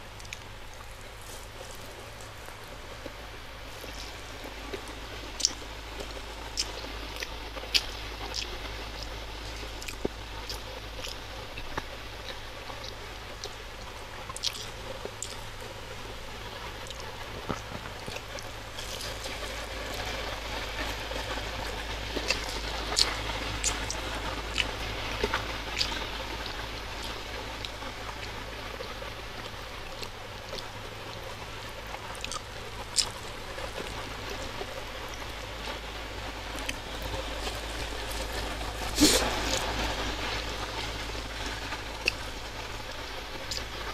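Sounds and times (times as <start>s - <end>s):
wet chewing mouth sounds: 0.0s - 31.3s, 31.9s - 42.4s
low hum: 0.0s - 43.9s.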